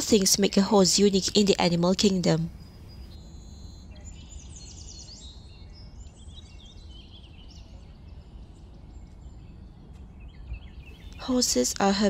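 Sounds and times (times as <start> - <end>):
low background rumble: 0.0 - 12.0
small birds chirping: 0.1 - 12.0.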